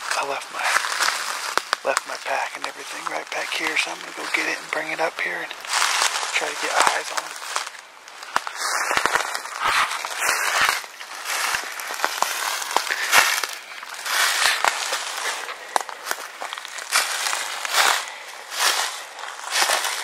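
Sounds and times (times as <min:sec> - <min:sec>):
footsteps on dry leaves: 0:00.0 - 0:20.0.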